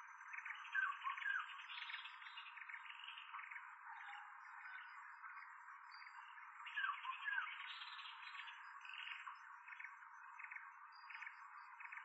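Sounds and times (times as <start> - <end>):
chorus of forest birds: 0.0 - 12.0.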